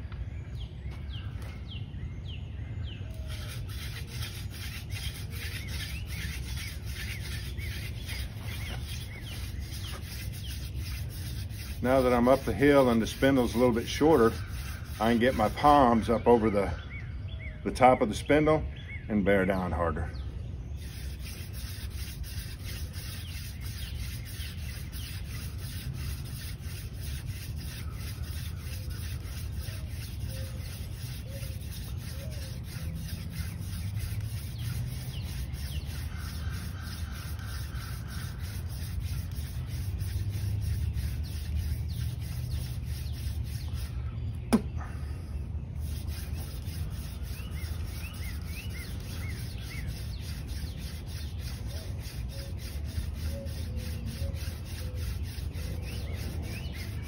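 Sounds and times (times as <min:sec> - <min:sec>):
wood rubbing on wood: 0:03.3 - 0:16.2, 0:20.8 - 0:44.8, 0:45.8 - 0:57.0.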